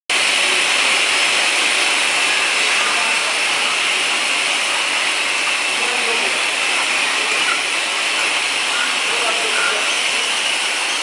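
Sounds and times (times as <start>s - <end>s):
filling machine hiss and whir: 0.1s - 11.0s.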